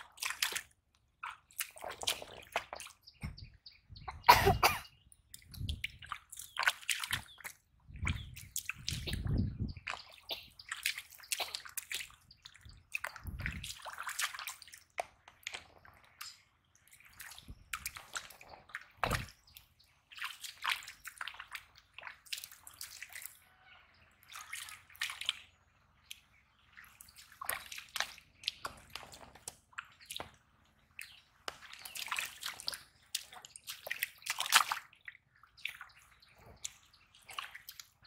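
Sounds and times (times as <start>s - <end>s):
bare feet squelching in mud: 0.0s - 4.2s, 5.2s - 38.0s.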